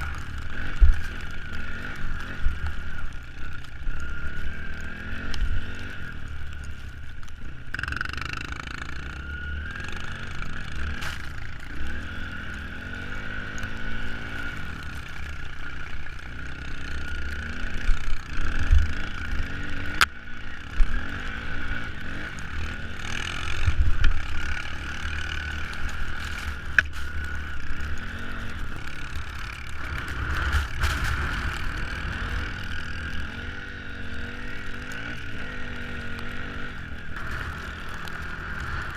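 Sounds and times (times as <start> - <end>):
off-road vehicle engine revving: 0.0 - 6.3, 7.7 - 38.9.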